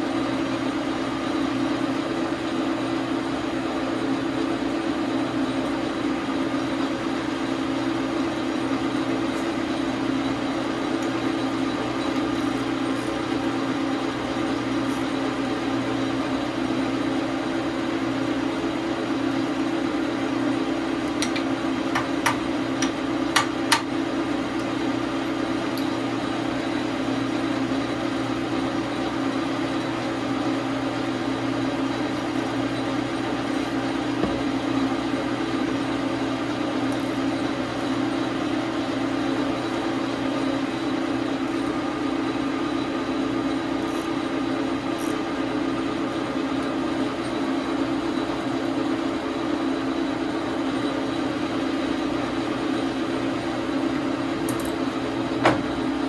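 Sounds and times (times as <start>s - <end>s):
lathe humming: 0.1s - 56.0s.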